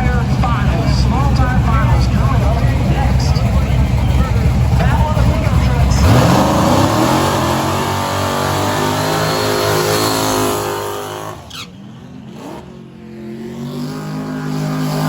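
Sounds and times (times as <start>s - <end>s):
loud drag racing engine: 0.0s - 15.0s.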